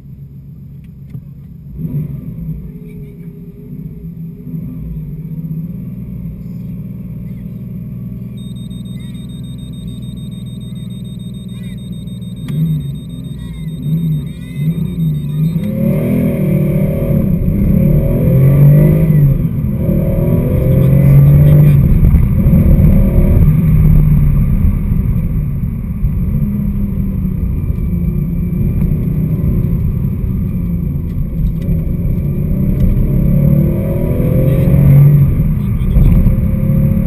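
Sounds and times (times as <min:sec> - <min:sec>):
car engine revving through gears: 0:01.7 - 0:02.7, 0:07.8 - 0:37.0.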